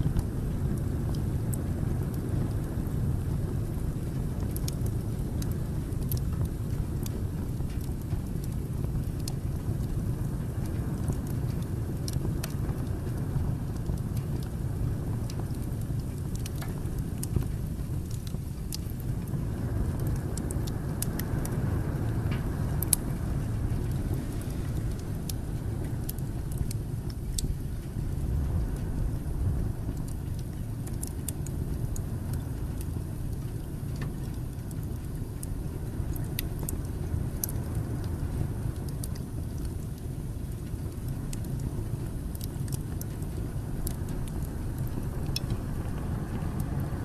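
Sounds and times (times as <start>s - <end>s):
fire rumbling: 0.0s - 47.0s
logs crackling and popping: 0.0s - 47.0s.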